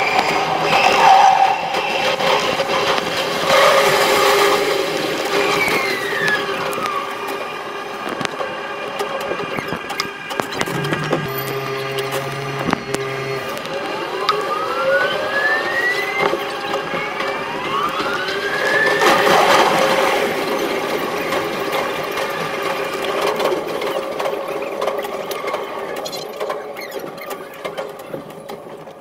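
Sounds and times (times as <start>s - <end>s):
electric train motors whining: 0.0s - 29.0s.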